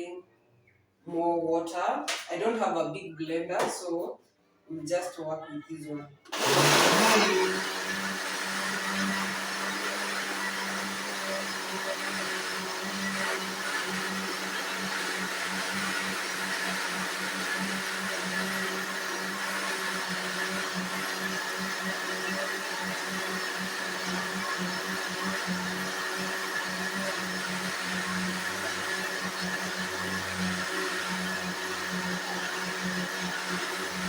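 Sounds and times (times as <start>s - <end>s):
blender running: 6.3s - 34.0s.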